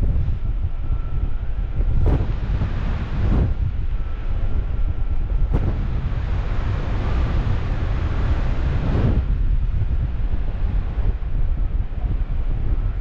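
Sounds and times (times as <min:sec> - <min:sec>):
rush of air: 0:00.0 - 0:13.0
wind buffeting microphone: 0:00.0 - 0:13.0.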